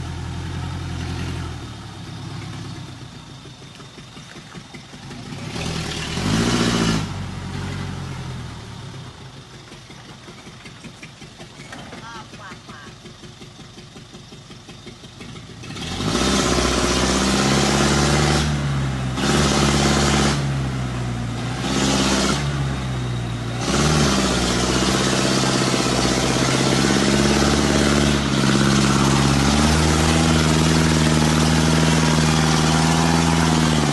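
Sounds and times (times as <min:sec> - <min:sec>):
truck engine idling and revving: 0:00.0 - 0:33.9.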